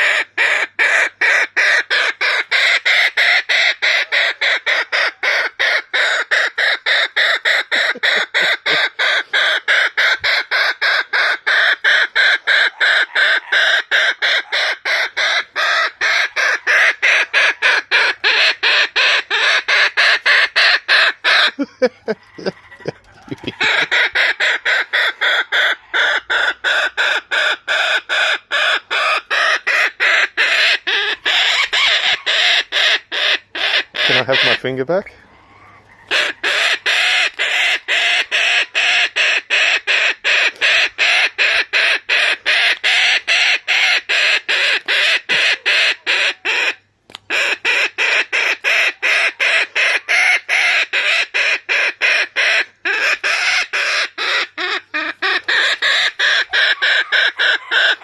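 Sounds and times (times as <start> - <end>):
kookaburra calling: 0.0 - 58.0.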